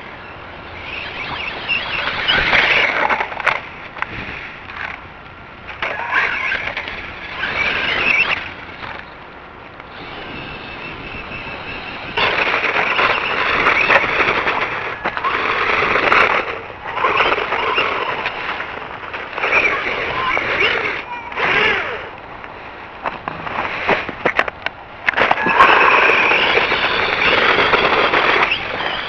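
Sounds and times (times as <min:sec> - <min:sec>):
rc truck motor whine: 0:00.0 - 0:05.0, 0:05.7 - 0:22.2, 0:23.4 - 0:29.0
tyres rolling: 0:00.0 - 0:29.0.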